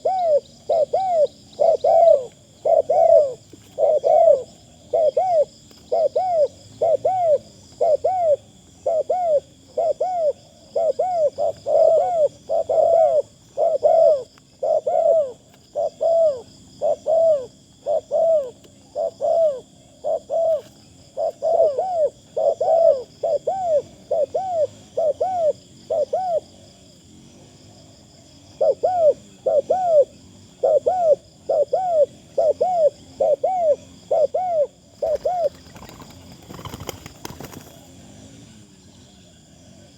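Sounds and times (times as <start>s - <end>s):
dove cooing: 0.0s - 26.8s, 28.4s - 37.9s.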